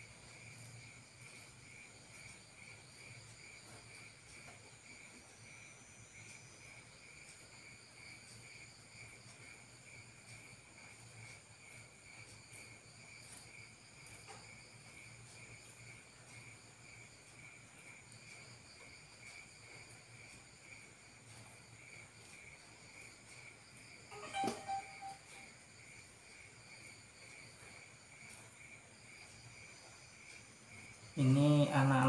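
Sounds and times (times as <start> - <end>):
night insects chirping: 0.0 - 32.0.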